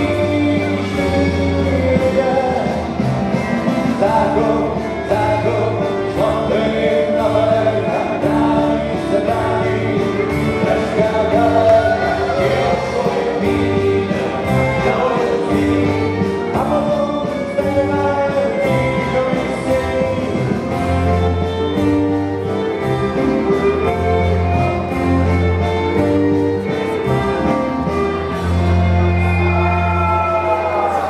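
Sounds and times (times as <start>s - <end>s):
dance music with singing: 0.0s - 31.0s.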